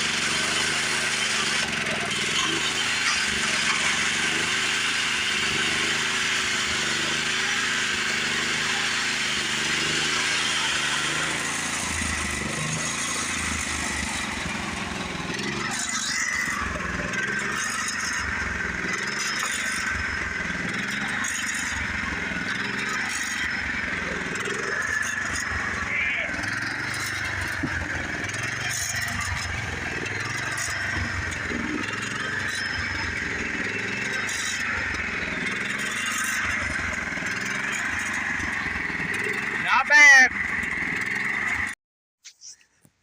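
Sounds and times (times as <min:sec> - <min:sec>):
chainsaw chain cutting log: 0:00.0 - 0:41.8
small engine running: 0:00.0 - 0:41.8.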